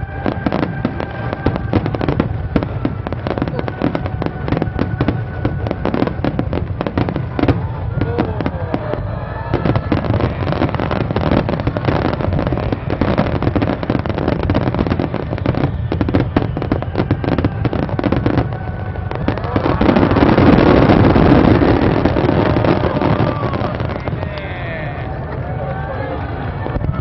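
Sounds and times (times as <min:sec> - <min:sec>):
continuous rumble: 0:00.0 - 0:27.0.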